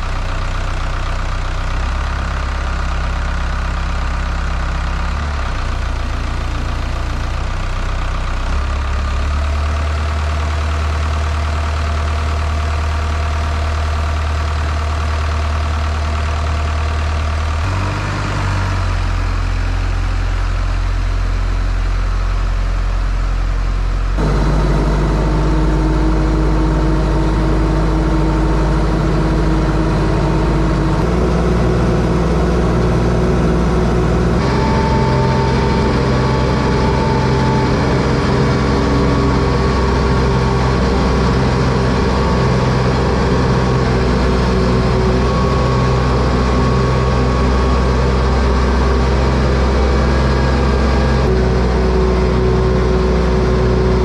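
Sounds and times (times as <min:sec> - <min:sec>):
heavy machine engine running: 0:00.0 - 0:54.0.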